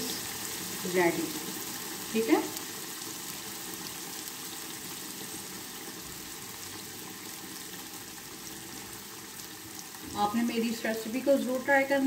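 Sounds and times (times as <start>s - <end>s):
curry bubbling and sizzling in oil: 0.0s - 12.0s.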